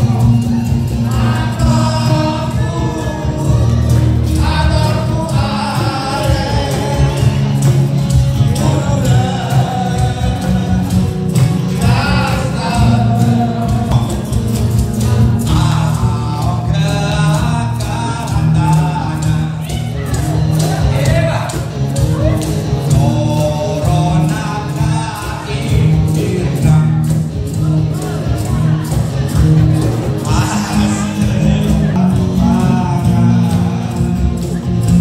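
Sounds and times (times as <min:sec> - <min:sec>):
lead singer singing: 0:00.0 - 0:21.4, 0:22.1 - 0:29.0, 0:29.8 - 0:35.0
bass line: 0:00.0 - 0:35.0.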